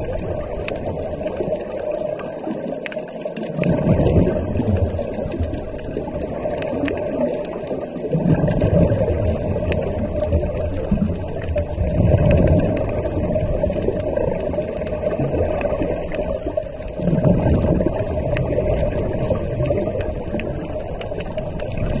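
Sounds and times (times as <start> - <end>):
muffled underwater moving water: 0.0 - 22.0
faint clicks: 0.1 - 22.0.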